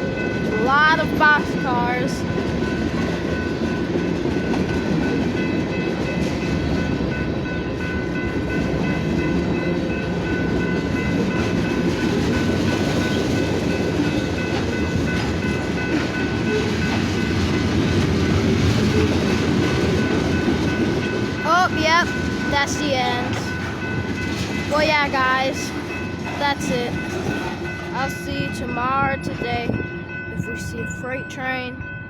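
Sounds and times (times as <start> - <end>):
steel wheels rumbling on rails: 0.0 - 32.0.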